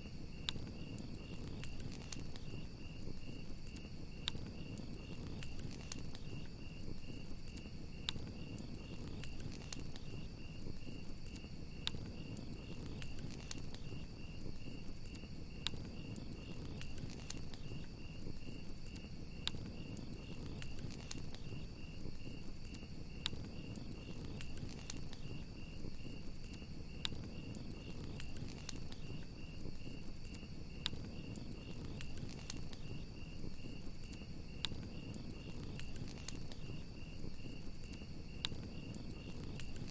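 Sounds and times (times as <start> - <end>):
crackling campfire: 0.0 - 39.9
crickets chirping: 0.0 - 39.9
low rumble of fire: 0.0 - 39.9
fire popping: 0.1 - 39.9.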